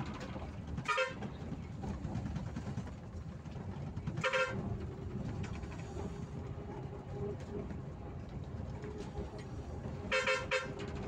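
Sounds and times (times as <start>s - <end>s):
bus engine: 0.0s - 11.0s.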